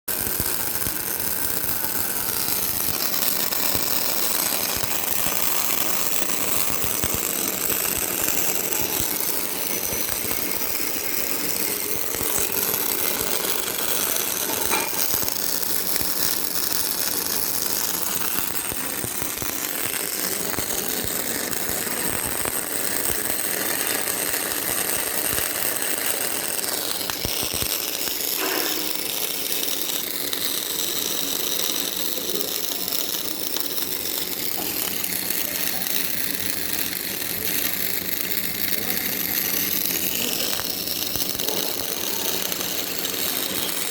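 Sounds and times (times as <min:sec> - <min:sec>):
welding machine clattering: 0:00.1 - 0:43.9.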